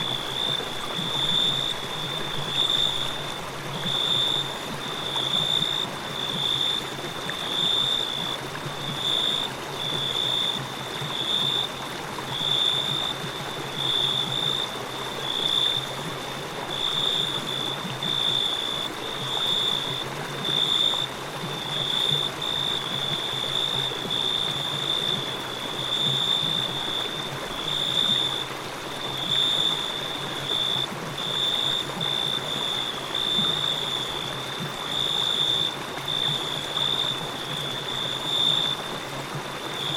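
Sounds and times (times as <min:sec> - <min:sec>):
crickets chirping: 0:00.0 - 0:39.9
river flowing: 0:00.0 - 0:39.9.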